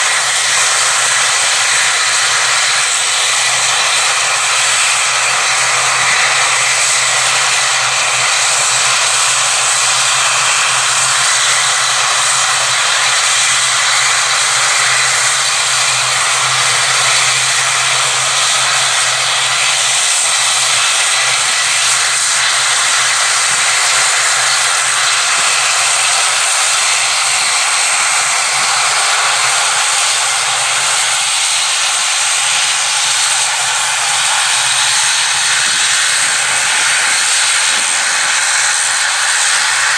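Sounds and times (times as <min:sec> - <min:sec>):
airplane engines running: 0:00.0 - 0:39.9.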